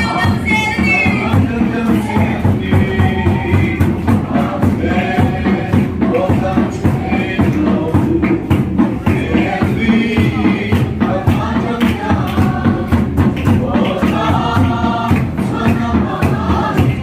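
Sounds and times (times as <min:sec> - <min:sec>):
drum and hand percussion: 0:00.0 - 0:17.0
group singing a hymn: 0:00.0 - 0:17.0.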